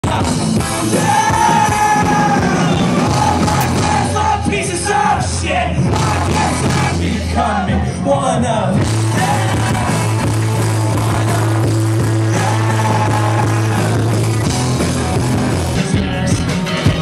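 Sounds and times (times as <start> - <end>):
person singing and yelling: 0.0 - 14.4
rock band playing live: 0.0 - 17.0.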